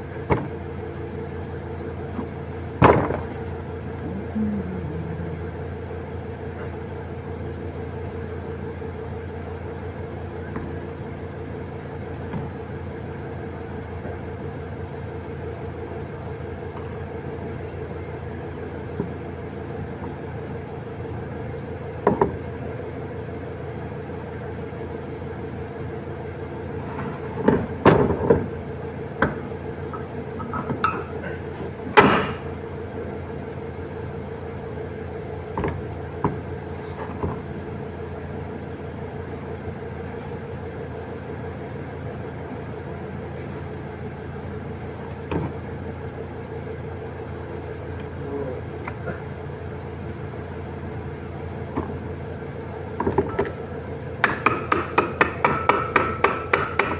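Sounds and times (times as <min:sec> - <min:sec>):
electric fan motor humming: 0:00.0 - 0:56.9.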